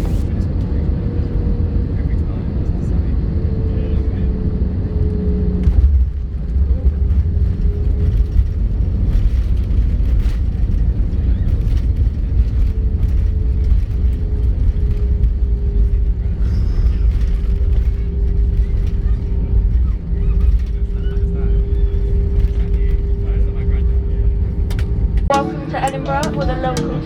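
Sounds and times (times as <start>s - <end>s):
aircraft cabin rumble: 0.0s - 4.0s, 5.6s - 23.6s.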